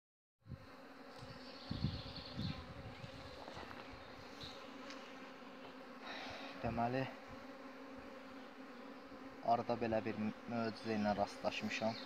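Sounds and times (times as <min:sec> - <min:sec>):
honeybees buzzing: 0:00.4 - 0:12.0.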